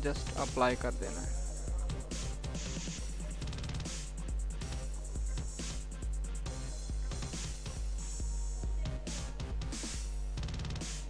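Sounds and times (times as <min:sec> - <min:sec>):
bass drum: 0:00.0 - 0:11.0.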